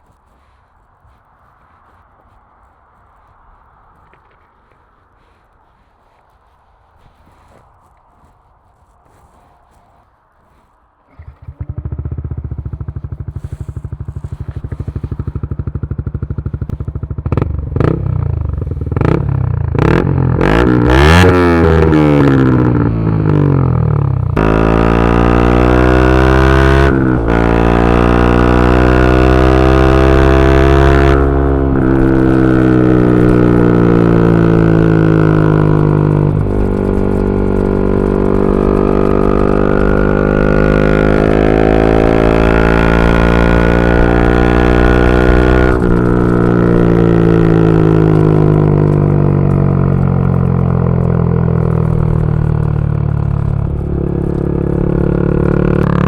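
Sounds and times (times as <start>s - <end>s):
motorcycle engine accelerating: 11.1s - 56.0s.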